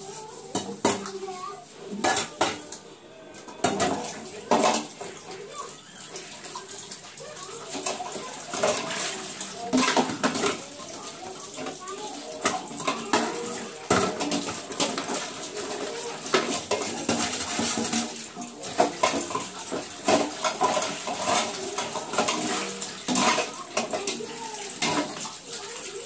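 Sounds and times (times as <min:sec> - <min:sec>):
pots and pans clanking: 0:00.2 - 0:02.8, 0:03.4 - 0:26.0.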